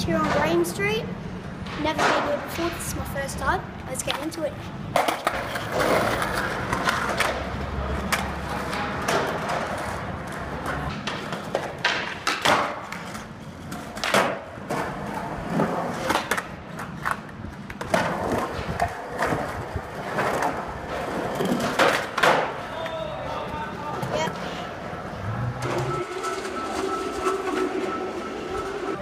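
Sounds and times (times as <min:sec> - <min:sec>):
skateboard wheels rolling on concrete: 0:00.0 - 0:29.0
skateboard clacking on ground: 0:00.1 - 0:00.8, 0:01.6 - 0:24.7.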